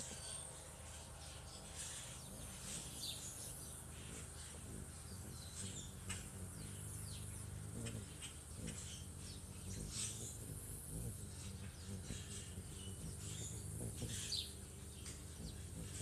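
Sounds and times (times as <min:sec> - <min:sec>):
hummingbirds chipping: 0:00.0 - 0:16.0
low steady hum: 0:00.0 - 0:16.0.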